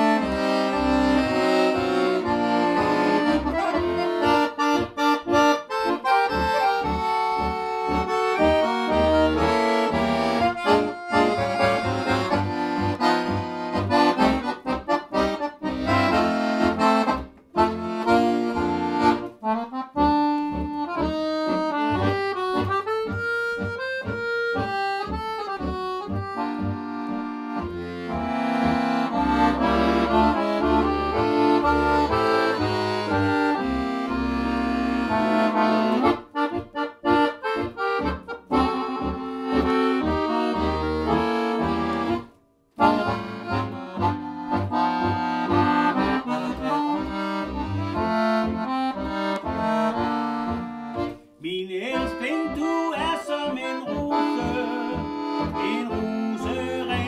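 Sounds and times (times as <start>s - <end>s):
piano accordion playing: 0.0s - 57.0s.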